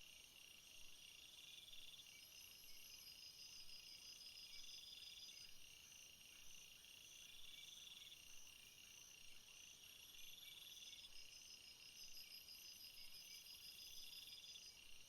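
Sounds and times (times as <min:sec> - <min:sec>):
night insects chirping: 0:00.2 - 0:15.0.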